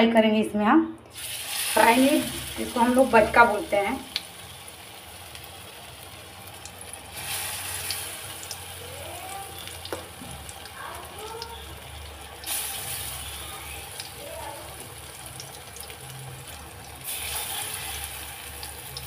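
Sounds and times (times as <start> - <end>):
battered slices sizzling in oil: 1.1 - 19.0.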